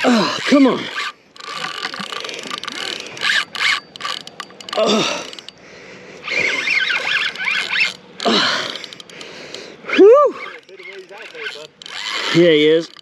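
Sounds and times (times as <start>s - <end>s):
fishing reel ratcheting and whirring: 0.0s - 13.0s.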